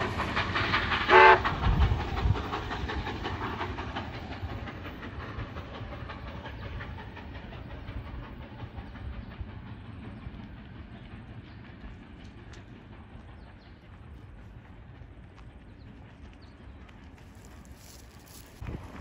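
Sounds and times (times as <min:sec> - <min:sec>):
train running past: 0:00.0 - 0:19.0.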